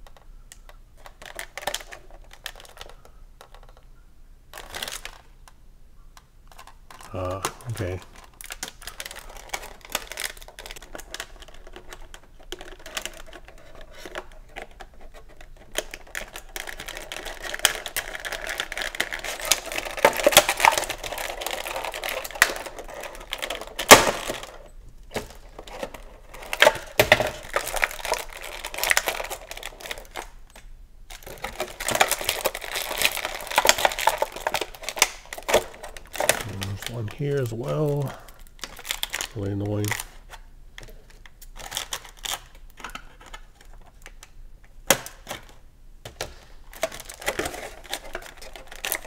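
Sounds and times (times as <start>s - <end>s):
plastic packaging crinkling: 0.6s - 3.8s, 4.5s - 5.4s, 6.5s - 49.0s.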